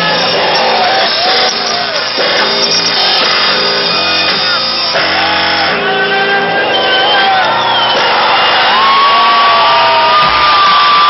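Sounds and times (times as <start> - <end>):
live electronic rock music: 0.0 - 11.0.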